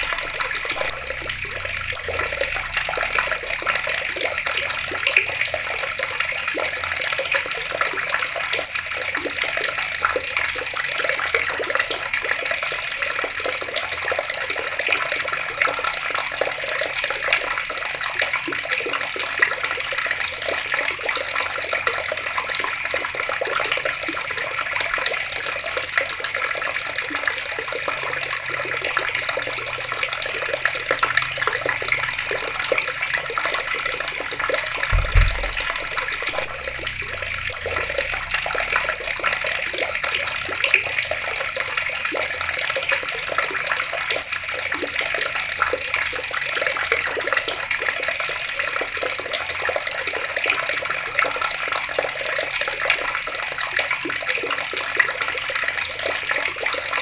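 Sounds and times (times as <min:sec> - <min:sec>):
water running from outdoor tap: 0:00.0 - 0:57.0.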